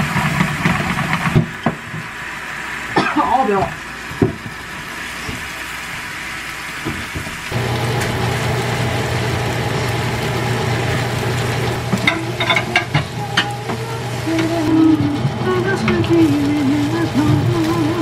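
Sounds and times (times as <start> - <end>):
food sizzling in pan: 0.0 - 18.0.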